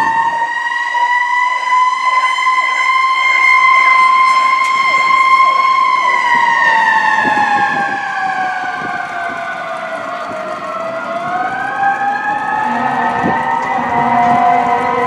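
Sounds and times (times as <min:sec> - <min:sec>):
fire engine siren winding down: 0:00.0 - 0:15.0.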